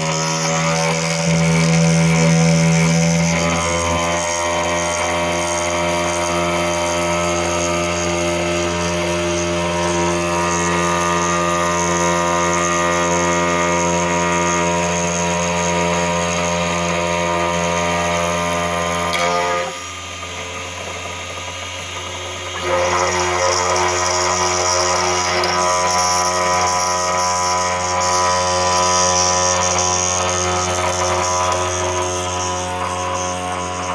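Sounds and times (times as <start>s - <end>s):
machine motor whine: 0.0s - 33.9s.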